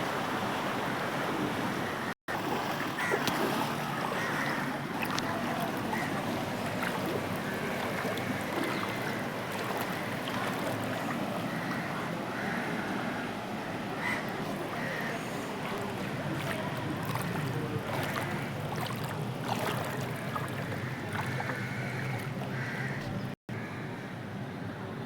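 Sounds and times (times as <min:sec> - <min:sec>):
floodwater rushing: 0:00.0 - 0:23.3.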